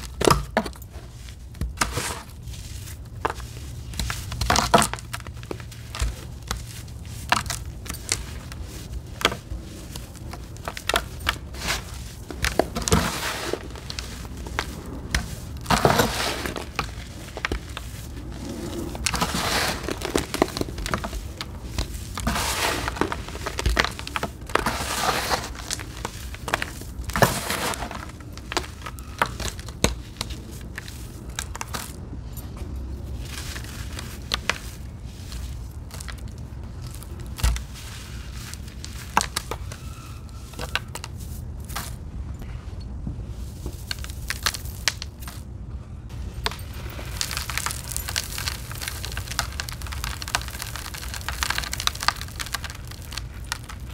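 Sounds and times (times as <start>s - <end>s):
hands crunching damp sand: 0.0s - 32.1s, 32.7s - 42.1s, 43.2s - 45.5s, 46.1s - 53.9s
low steady hum: 0.0s - 53.9s.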